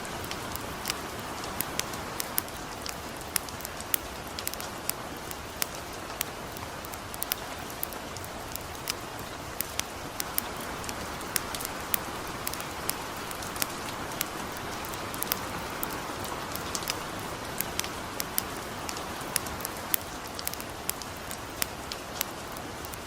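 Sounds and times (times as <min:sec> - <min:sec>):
campfire crackling: 0:00.0 - 0:23.0
light rain pattering: 0:00.0 - 0:23.0.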